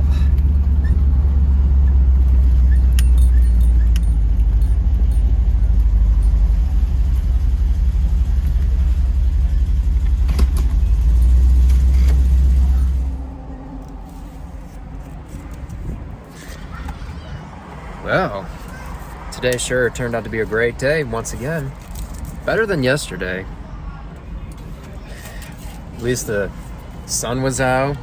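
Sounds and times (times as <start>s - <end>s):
car engine low rumble: 0.0s - 28.0s.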